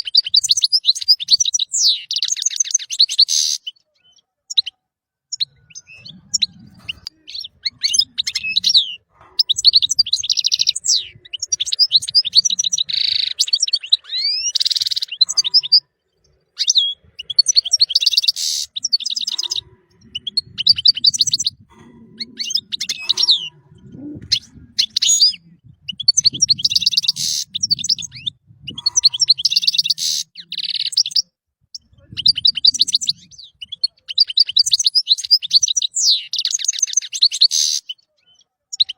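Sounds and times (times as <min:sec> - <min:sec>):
finch twittering song: 0:00.0 - 0:38.9.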